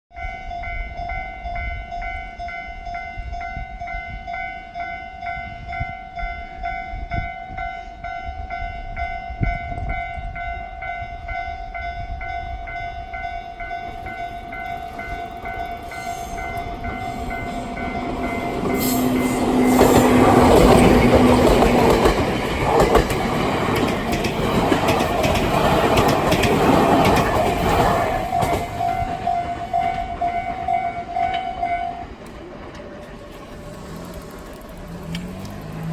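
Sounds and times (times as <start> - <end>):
level-crossing warning bell: 0.1 - 33.5
approaching train: 0.1 - 35.9.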